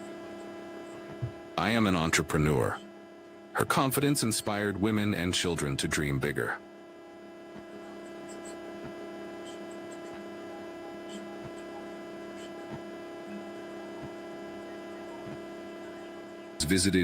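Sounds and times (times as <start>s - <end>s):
steady hum of held tones: 0.0s - 17.0s.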